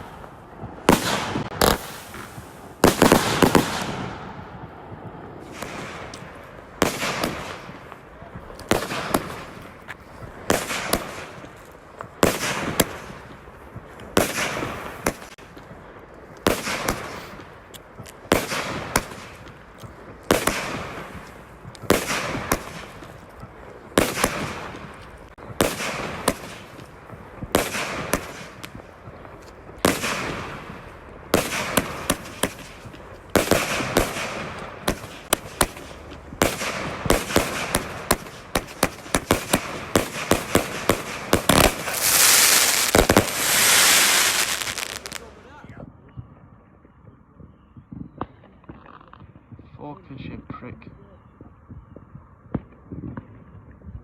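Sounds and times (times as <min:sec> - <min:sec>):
fireworks crackle: 0:00.0 - 0:45.7
fireworks bangs: 0:00.0 - 0:45.8.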